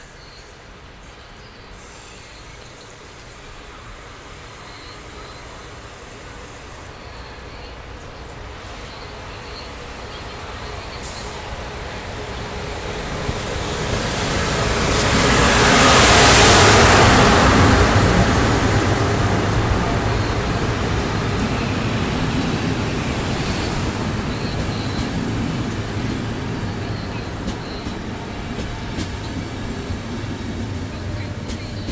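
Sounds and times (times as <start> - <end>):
electric train passing: 0.0 - 31.9.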